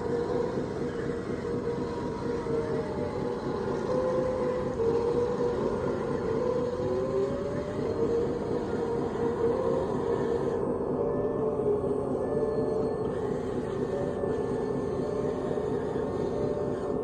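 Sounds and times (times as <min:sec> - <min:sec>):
electric motor and hydraulic whine: 0:00.0 - 0:17.0.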